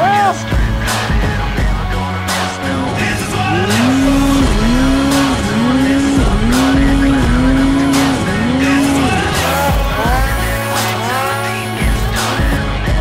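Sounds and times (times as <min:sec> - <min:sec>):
background music: 0:00.0 - 0:13.0
snowmobile engine revving: 0:01.4 - 0:12.6.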